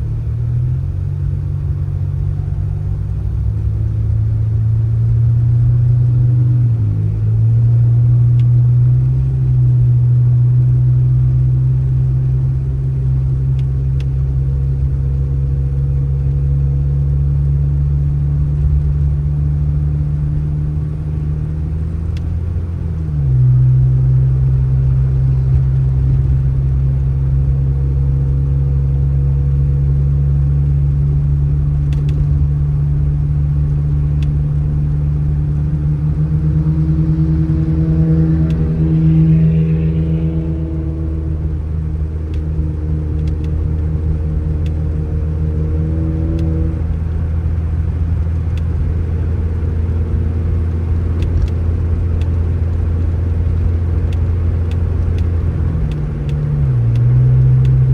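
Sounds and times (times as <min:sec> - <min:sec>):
engine droning: 0:00.0 - 0:57.9.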